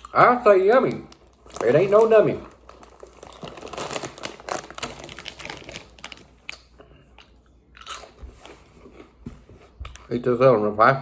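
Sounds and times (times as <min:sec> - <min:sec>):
crunching and chewing snacks: 0:00.0 - 0:09.1.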